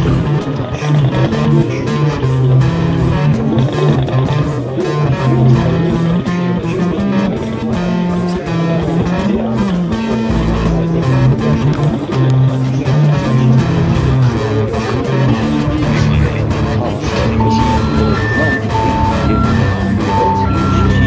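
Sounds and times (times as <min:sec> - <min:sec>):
guitar music with beat: 0:00.0 - 0:21.0.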